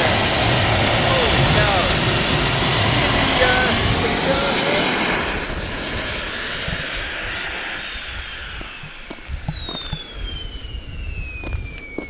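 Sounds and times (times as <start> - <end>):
exhaust rush: 0.0 - 11.4
turbojet engine whining: 0.0 - 12.0.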